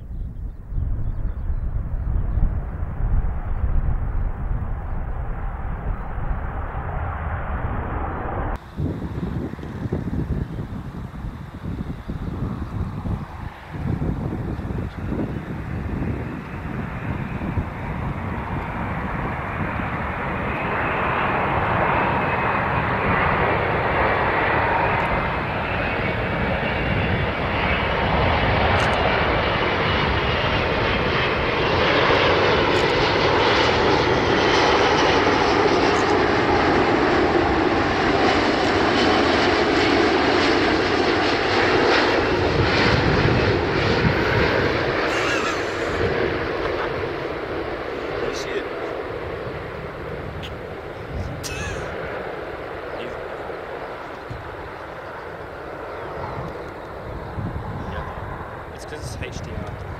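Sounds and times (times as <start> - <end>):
jet airliner engines on approach: 0.0 - 59.9.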